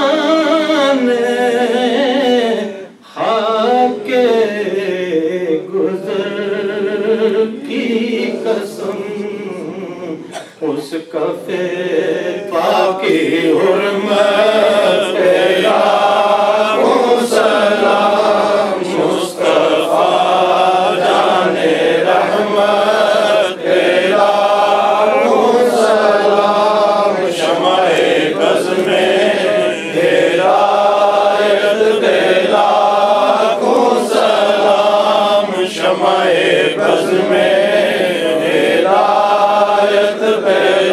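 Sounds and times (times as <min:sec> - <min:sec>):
men chanting through a microphone: 0:00.0 - 0:40.9.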